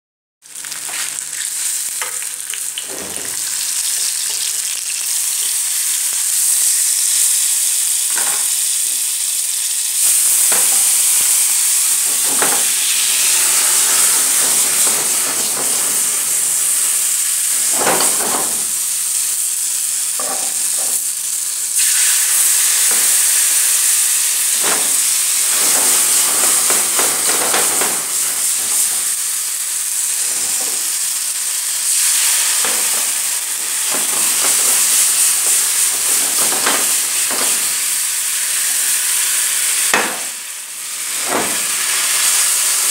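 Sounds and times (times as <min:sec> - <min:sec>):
liquid sizzling in a pan: 0:00.4 - 0:42.9.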